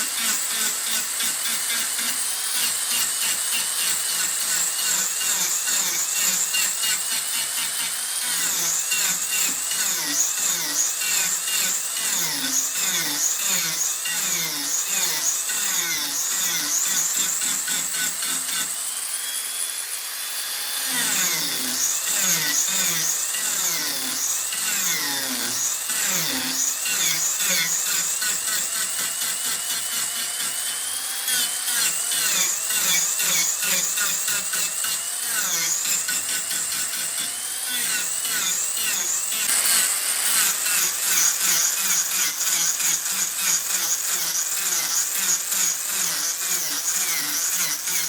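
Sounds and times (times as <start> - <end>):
angle grinder cutting wood: 0.0 - 48.0.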